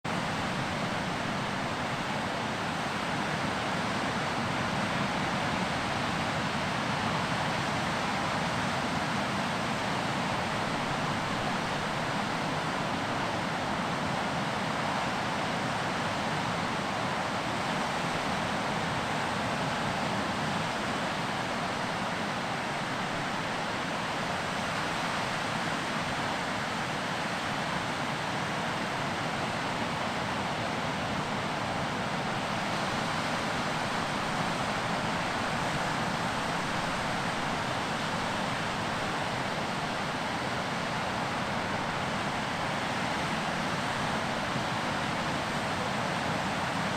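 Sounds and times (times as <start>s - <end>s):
ocean surf: 0.1s - 46.9s.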